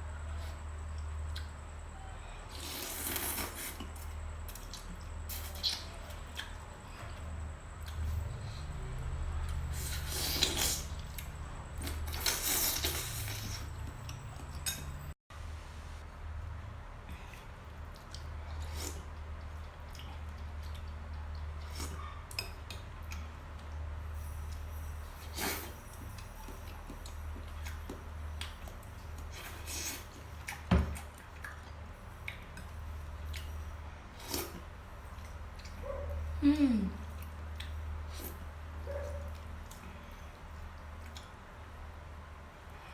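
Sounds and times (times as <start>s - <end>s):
chewing noises: 2.5s - 15.0s, 17.1s - 23.8s, 25.2s - 36.4s, 37.0s - 41.7s.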